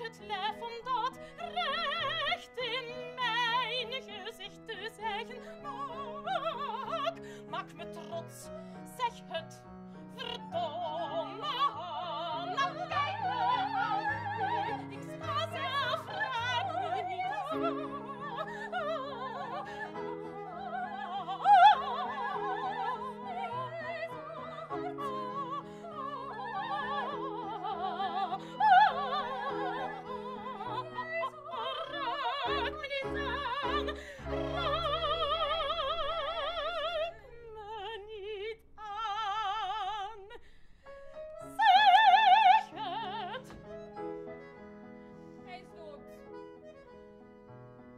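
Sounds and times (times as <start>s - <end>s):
woman singing opera: 0.0s - 43.9s, 45.4s - 46.4s.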